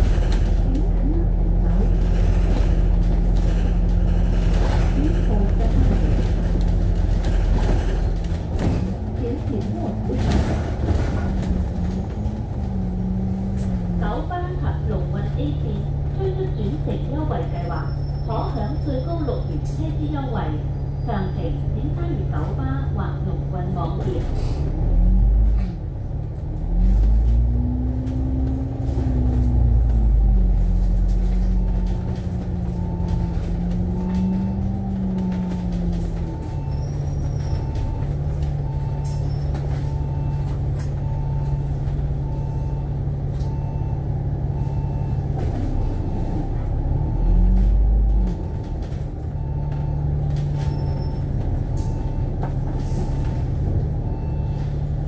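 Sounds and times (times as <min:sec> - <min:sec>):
bus engine: 0:00.0 - 0:55.0.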